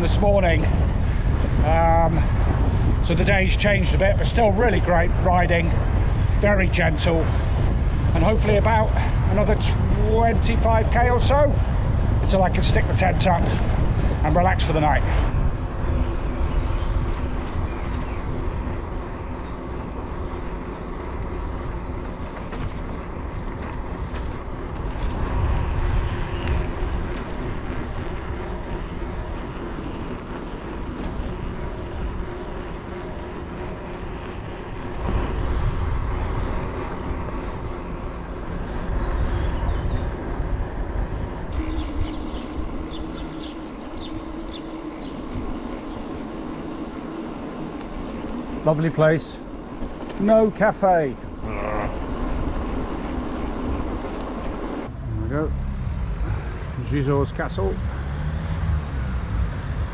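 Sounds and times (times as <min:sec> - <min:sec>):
bike rattling and clicking: 0:00.0 - 0:54.9
bike tyres rumbling on gravel: 0:00.0 - 0:54.9
wind on microphone: 0:00.0 - 0:56.8.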